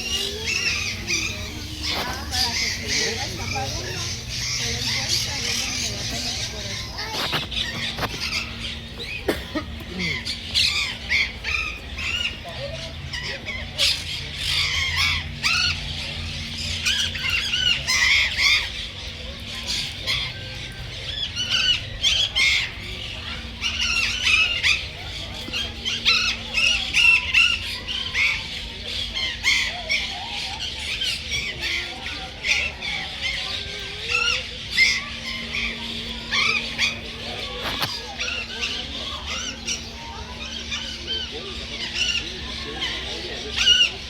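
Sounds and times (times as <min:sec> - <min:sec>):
many birds chirping: 0:00.0 - 0:44.0.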